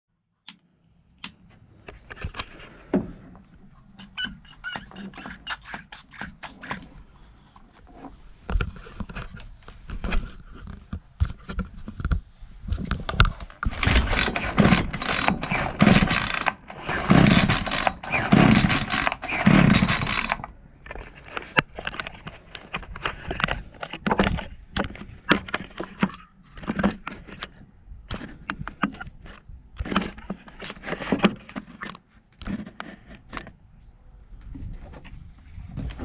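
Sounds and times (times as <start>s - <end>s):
plastic clicks and scraping: 0.4s - 33.6s.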